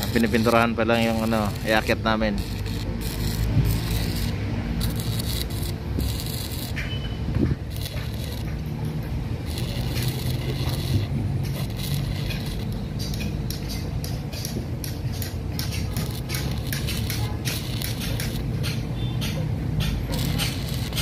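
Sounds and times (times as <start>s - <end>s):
welding arc crackling: 0.0s - 21.0s.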